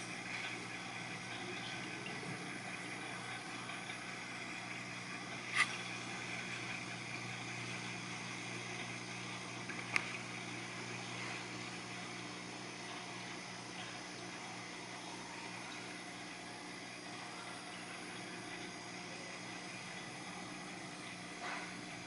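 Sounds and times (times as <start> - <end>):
low machine hum with hiss: 0.0 - 22.0.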